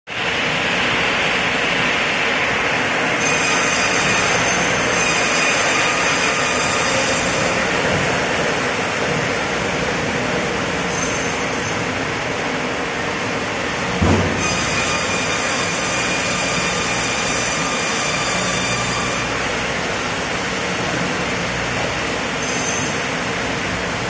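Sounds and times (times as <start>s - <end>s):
band sawmill cutting log: 2.4s - 24.0s.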